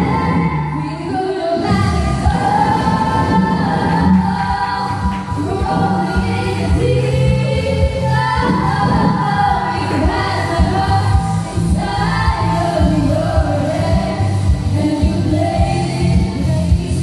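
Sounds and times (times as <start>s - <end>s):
women singing pop together: 0.0s - 17.0s
instrumental backing with beat: 1.7s - 17.0s.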